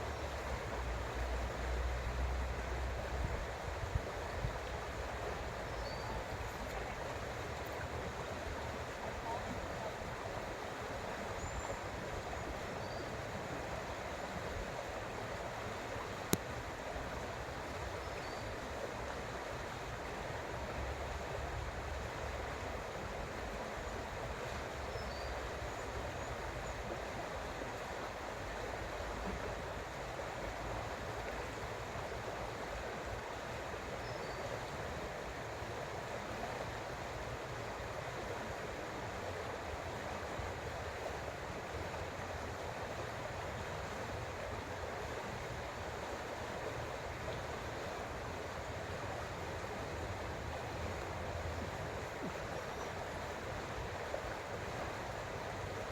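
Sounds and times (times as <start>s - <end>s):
creek water flowing: 0.0s - 55.9s.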